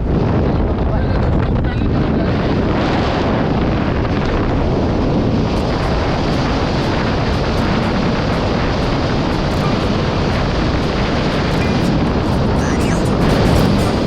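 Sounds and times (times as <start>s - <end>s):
wind roar: 0.0s - 14.0s
ship machinery noise: 1.8s - 14.0s.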